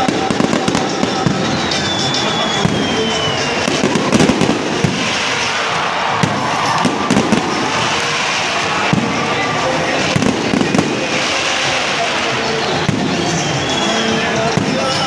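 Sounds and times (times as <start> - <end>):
crowd voices: 0.0 - 15.0
heavy rain falling: 0.0 - 15.0.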